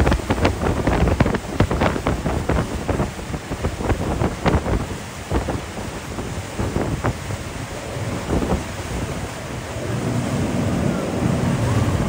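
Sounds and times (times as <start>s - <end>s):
water splashing and slapping: 0.0s - 12.0s
wind buffeting microphone: 0.0s - 12.0s.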